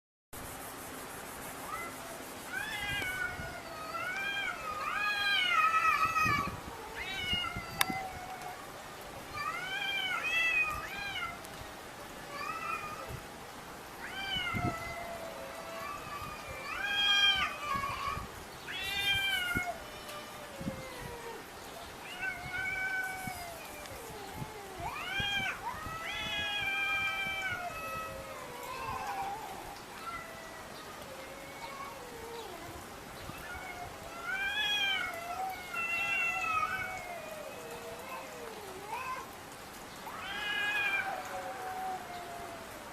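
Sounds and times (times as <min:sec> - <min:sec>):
cats yowling: 0:01.6 - 0:11.6, 0:12.2 - 0:13.3, 0:14.0 - 0:42.9.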